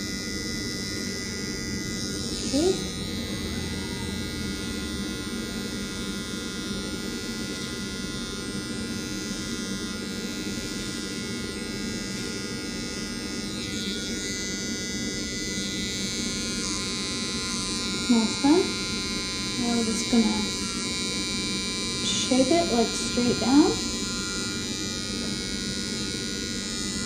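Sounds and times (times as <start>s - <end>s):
hair trimmer running: 0.0s - 27.0s.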